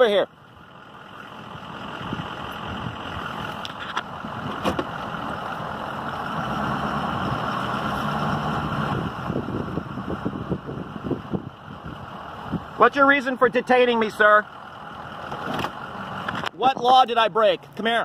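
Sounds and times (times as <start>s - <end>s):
truck engine and tyre noise: 0.0s - 18.0s.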